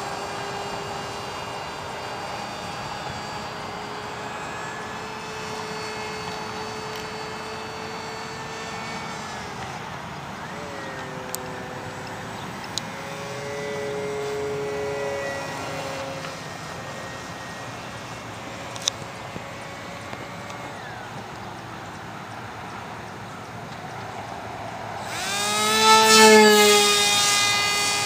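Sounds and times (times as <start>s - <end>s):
model airplane propeller whine: 0.0s - 28.0s.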